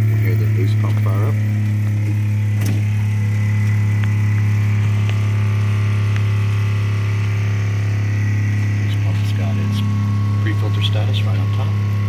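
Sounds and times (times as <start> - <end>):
watermaker pump humming: 0.0 - 12.0.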